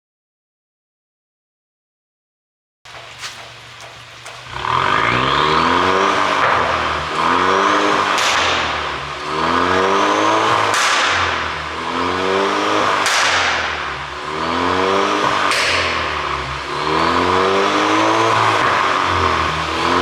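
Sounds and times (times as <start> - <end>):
car engine revving: 2.9 - 20.0
sharp exhaust pops: 2.9 - 20.0.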